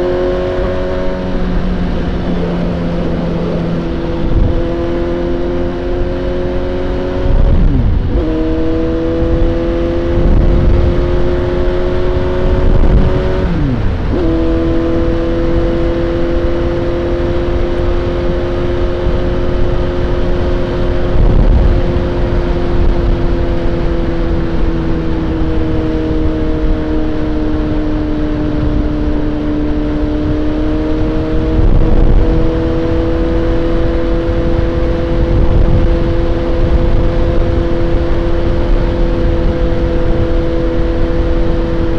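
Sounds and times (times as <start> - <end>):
motorcycle engine shifting gears: 0.0 - 41.9
wind rumble on microphone: 0.0 - 41.9.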